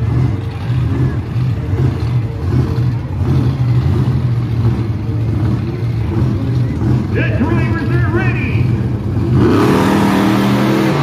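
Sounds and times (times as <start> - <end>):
monster truck engine rumbling: 0.0 - 11.0.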